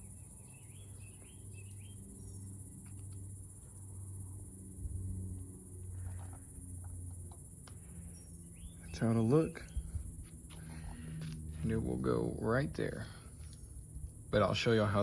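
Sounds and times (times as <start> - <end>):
insect drone: 0.0 - 15.0
low hum: 0.0 - 15.0.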